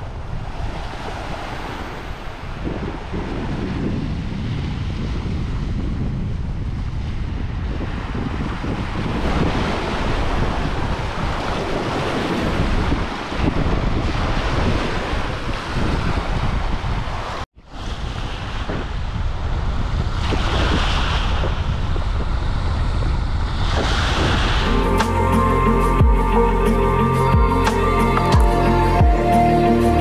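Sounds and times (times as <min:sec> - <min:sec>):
small waves washing onto beach: 0:00.0 - 0:05.7, 0:06.3 - 0:24.8
wind noise on microphone: 0:00.0 - 0:30.0.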